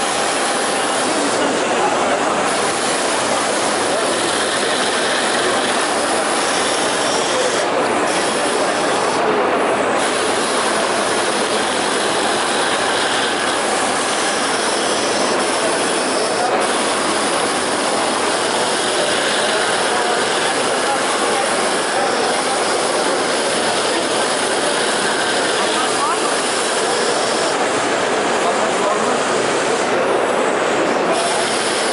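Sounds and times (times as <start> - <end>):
industrial sewing machine running: 0.0 - 31.9.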